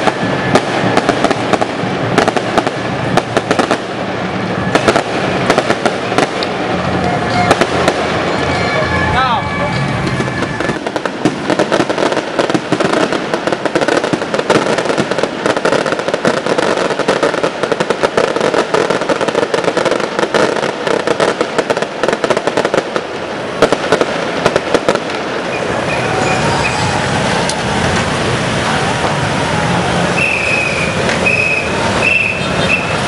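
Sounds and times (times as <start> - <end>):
firecrackers and fireworks bangs: 0.0 - 33.0.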